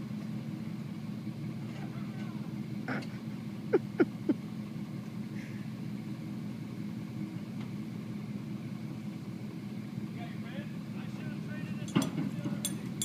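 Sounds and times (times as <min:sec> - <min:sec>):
pickup truck engines idling: 0:00.0 - 0:13.0.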